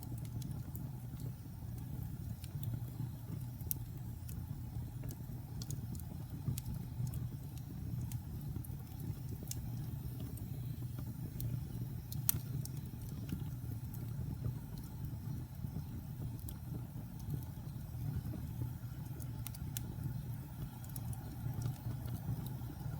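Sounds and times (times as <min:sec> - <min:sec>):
fire crackling and popping: 0:00.0 - 0:22.9
fire rumbling in fireplace: 0:00.0 - 0:22.9.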